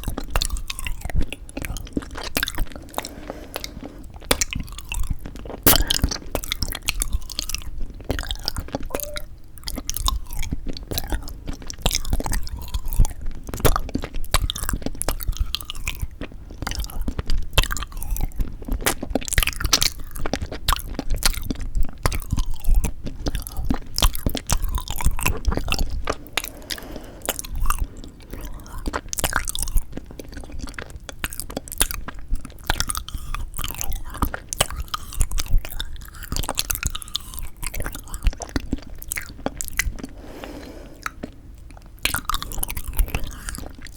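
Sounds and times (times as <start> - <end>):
chewing and crunching: 0.0 - 43.9.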